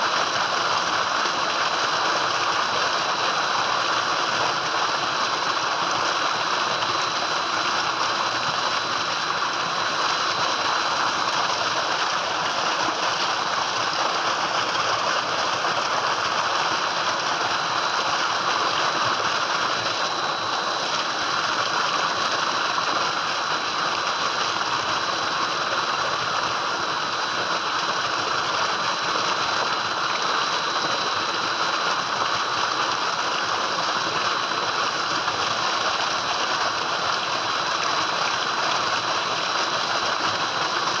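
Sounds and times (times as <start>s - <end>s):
water gushing into a tank: 0.0s - 41.0s.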